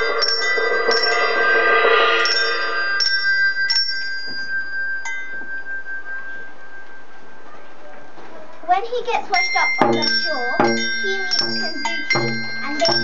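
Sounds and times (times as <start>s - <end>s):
tuned metal percussion notes: 0.0s - 8.0s, 9.3s - 13.0s.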